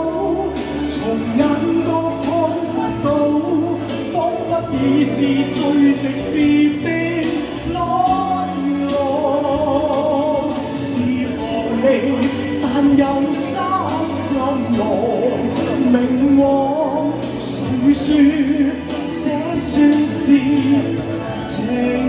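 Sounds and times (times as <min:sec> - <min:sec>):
live pop band music: 0:00.0 - 0:22.0
melodic lead line: 0:00.0 - 0:22.0.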